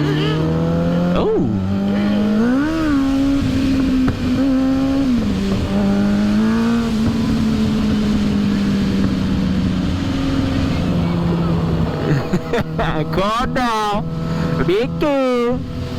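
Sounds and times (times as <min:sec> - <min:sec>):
motorcycle engine revving: 0:00.0 - 0:15.9.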